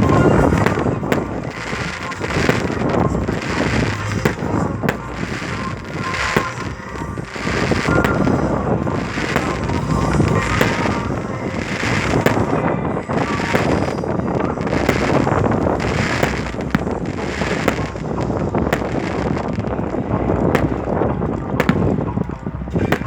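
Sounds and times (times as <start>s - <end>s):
fireworks bangs: 0.0s - 23.0s
wind on microphone: 0.0s - 23.0s.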